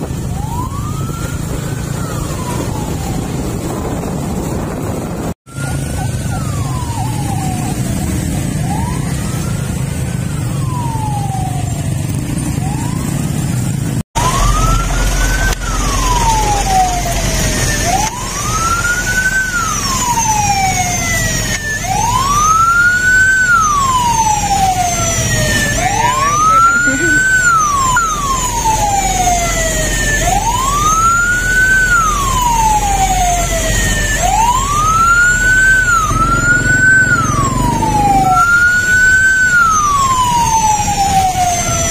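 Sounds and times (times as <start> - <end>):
ambulance sirens wailing: 0.0 - 41.9
traffic rumble: 0.0 - 41.9.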